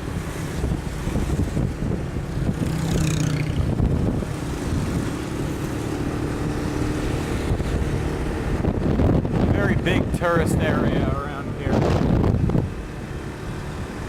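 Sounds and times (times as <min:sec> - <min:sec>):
motorcycle engine hum: 0:00.0 - 0:14.0
wind rumble on microphone: 0:00.0 - 0:14.0.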